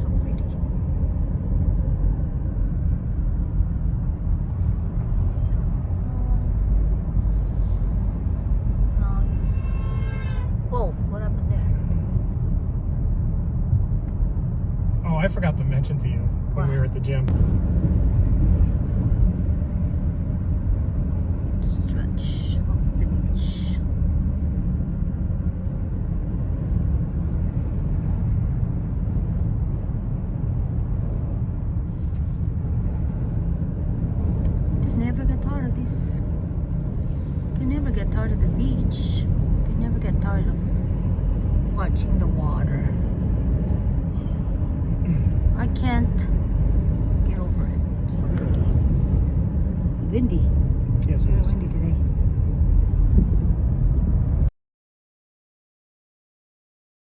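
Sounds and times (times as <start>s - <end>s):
road and wind noise: 0.0s - 54.5s.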